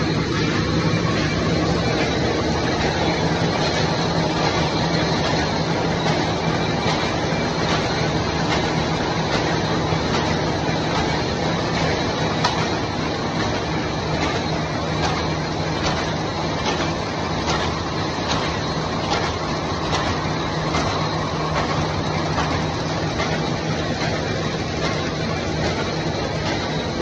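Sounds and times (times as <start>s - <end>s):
paper bag machine humming and clattering: 0.0s - 27.0s.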